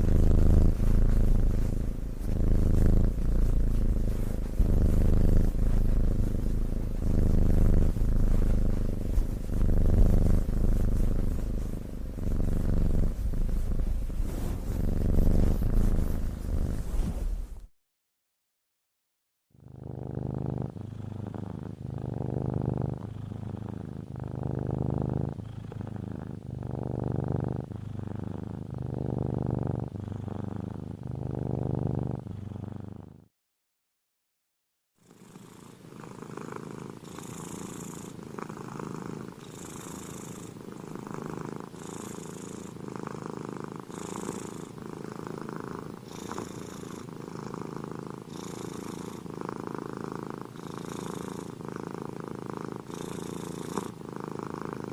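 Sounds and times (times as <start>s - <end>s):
cat purring: 0.0s - 17.7s, 19.6s - 33.3s, 35.0s - 54.9s.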